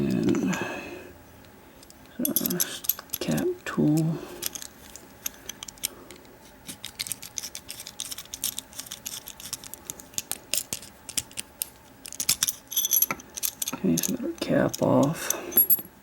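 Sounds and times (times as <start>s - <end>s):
metal clicks and scrapes: 1.8s - 15.7s.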